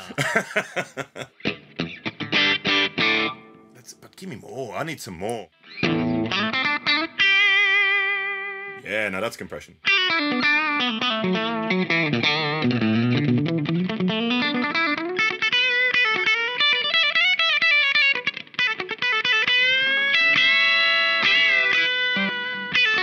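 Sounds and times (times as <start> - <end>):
compressed clean electric guitar: 0.0 - 3.8, 5.5 - 8.8, 9.8 - 23.0.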